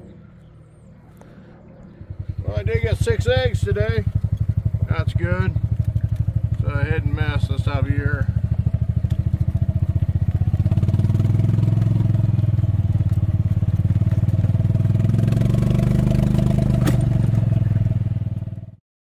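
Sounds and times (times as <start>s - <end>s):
engine running with low pulsing: 0.0s - 18.8s.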